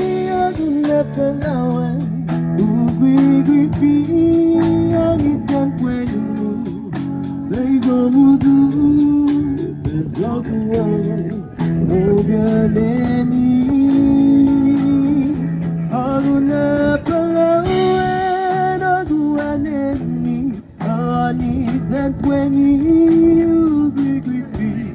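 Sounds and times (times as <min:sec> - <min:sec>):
person singing: 0:00.0 - 0:24.9
strummed guitar: 0:00.0 - 0:24.9.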